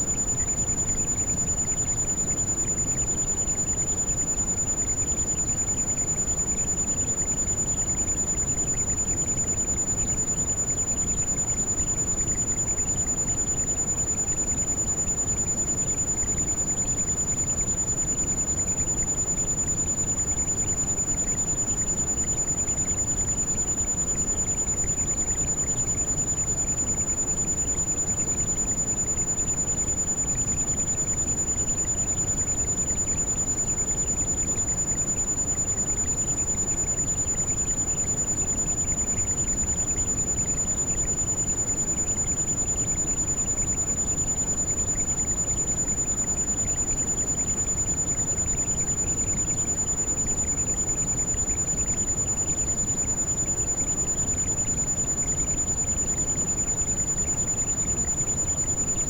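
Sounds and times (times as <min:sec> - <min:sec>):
high-pitched ringing tone: 0:00.0 - 0:59.0.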